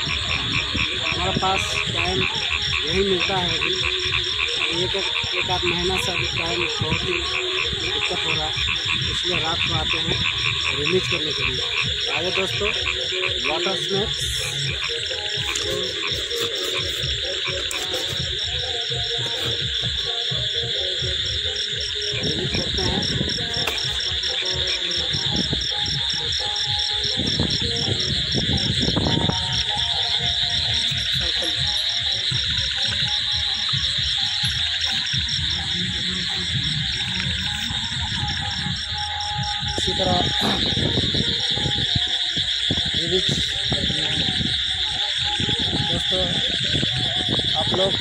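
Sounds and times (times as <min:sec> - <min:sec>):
crickets and insects trilling: 0:00.0 - 0:48.0
frogs croaking: 0:00.0 - 0:48.0.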